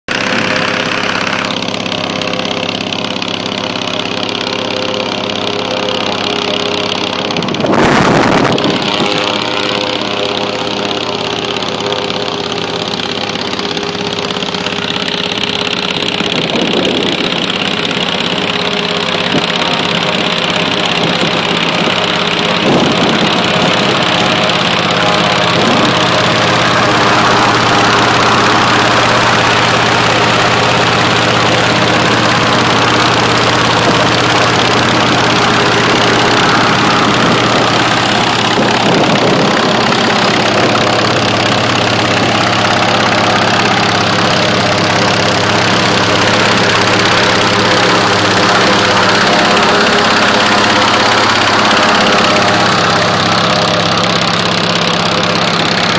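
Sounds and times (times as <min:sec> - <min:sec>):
propeller spinning: 0:00.0 - 0:55.9
motorcycle engine running: 0:00.1 - 0:55.9.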